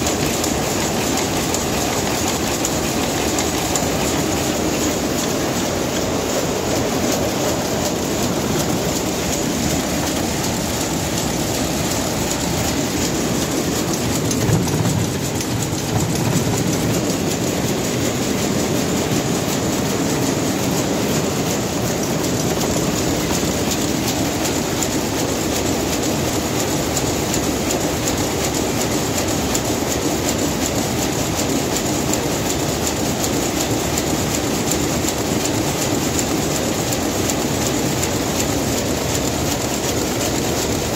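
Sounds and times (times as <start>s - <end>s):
weaving looms clattering: 0.0s - 40.9s.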